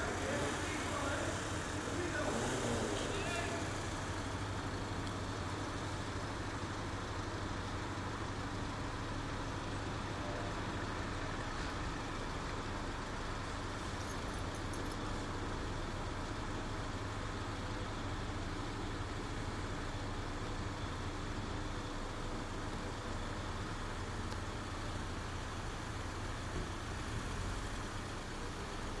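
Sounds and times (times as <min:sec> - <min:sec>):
road and traffic noise: 0:00.0 - 0:29.0
truck engine drone: 0:00.0 - 0:29.0.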